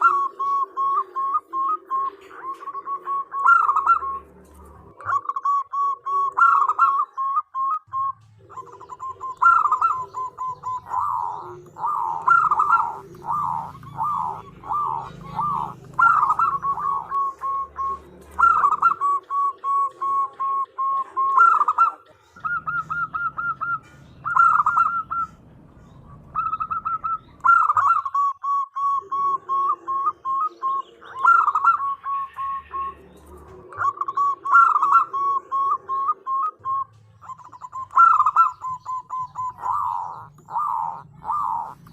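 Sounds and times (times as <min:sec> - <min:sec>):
dove calling: 0:00.0 - 0:41.9.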